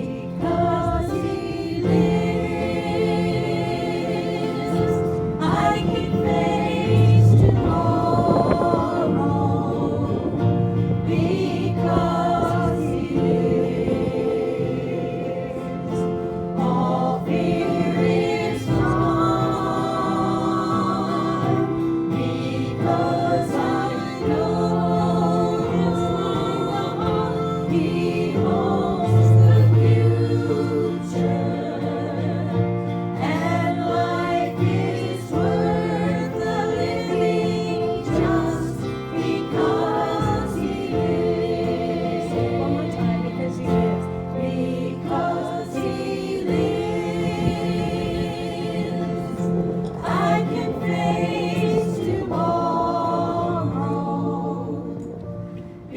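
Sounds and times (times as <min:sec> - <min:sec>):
group singing a hymn in harmony: 0:00.0 - 0:55.9.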